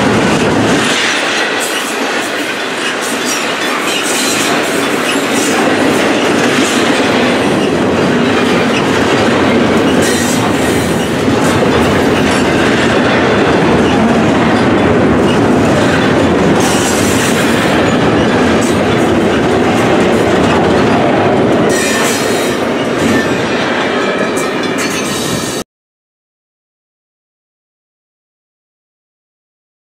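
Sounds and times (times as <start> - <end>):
clickety-clack over rail joints: 0.0 - 25.6
train wheels rumbling on rails: 0.0 - 25.6.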